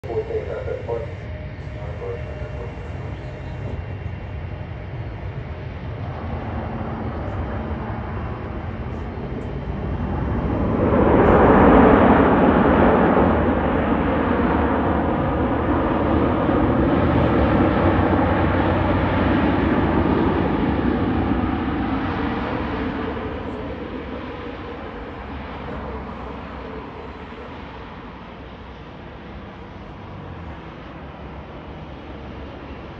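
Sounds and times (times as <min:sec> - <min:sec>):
jet airliner landing roar: 0:00.0 - 0:32.9.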